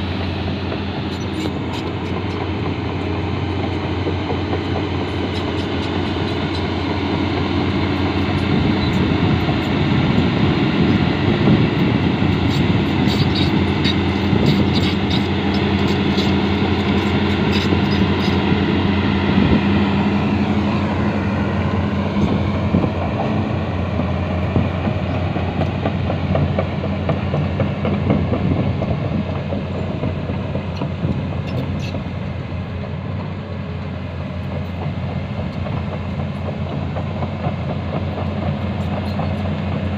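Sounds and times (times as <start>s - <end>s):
excavator diesel engine running: 0.0s - 39.9s
hydraulics working: 0.0s - 39.9s.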